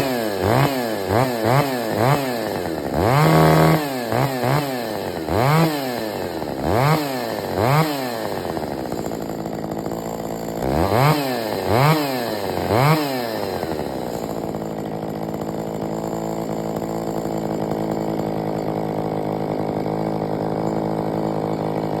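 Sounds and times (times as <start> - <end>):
chainsaw idling and revving: 0.0 - 22.0.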